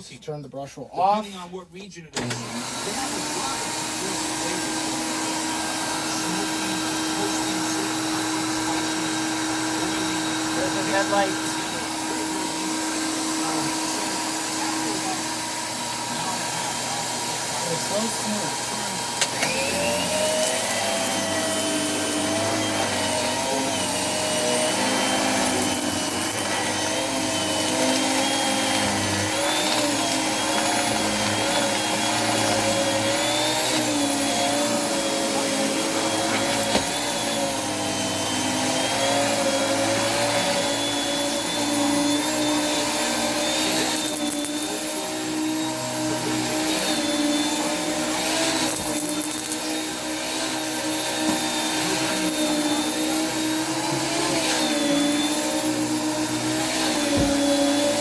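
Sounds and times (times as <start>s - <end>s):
vacuum motor whining: 2.1s - 58.0s.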